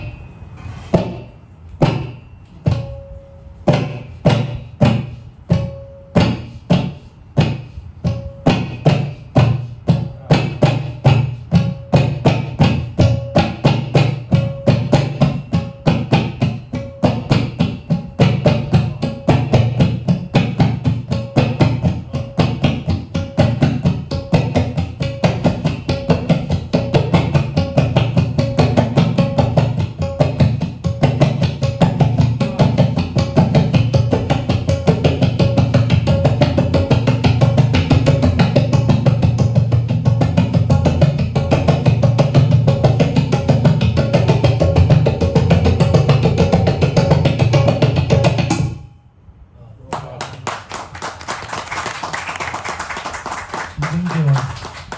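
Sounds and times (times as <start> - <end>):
tabla strokes quickening: 0.0 - 3.0, 3.6 - 48.8
ringing treble drum stroke: 0.0 - 48.8.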